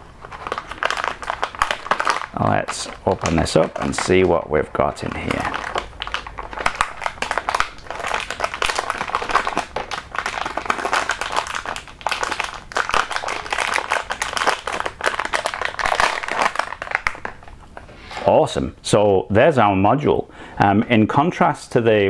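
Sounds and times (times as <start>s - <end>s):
plastic bag crinkling: 0.0s - 18.3s.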